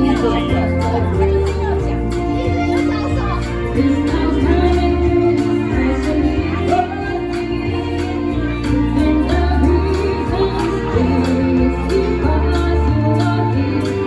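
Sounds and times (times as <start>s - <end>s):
person singing over a band: 0.0s - 14.0s.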